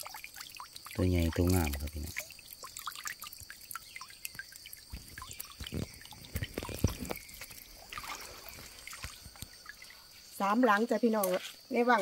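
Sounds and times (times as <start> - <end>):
small water splashes: 0.0 - 11.0
water dripping and trickling: 0.0 - 12.0.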